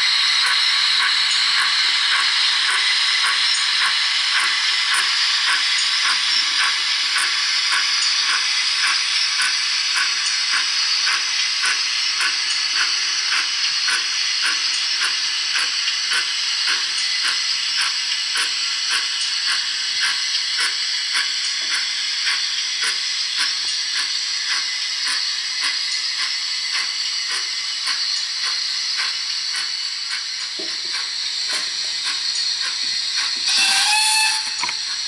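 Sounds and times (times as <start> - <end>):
soft regular steam beats: 0.0 - 35.0
steam hiss: 0.0 - 35.0.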